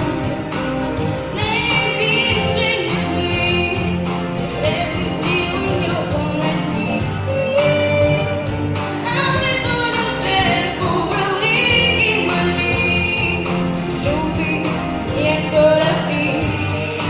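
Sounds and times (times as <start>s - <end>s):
girl singing pop song: 0.0s - 17.0s
instrumental backing music: 0.0s - 17.0s.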